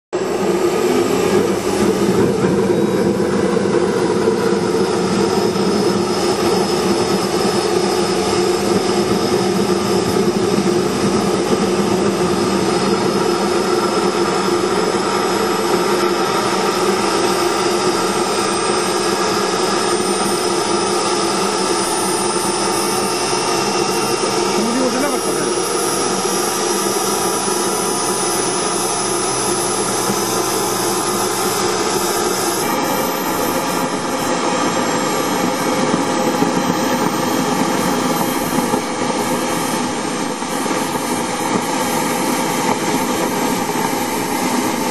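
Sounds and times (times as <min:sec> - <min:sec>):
high turbine whine: 0:00.2 - 0:44.9
jet turbine engine running: 0:00.2 - 0:44.9.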